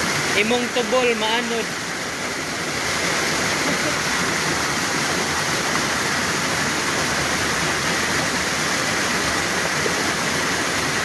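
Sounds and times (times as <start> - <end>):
floodwater rushing down a creek: 0.0 - 11.0.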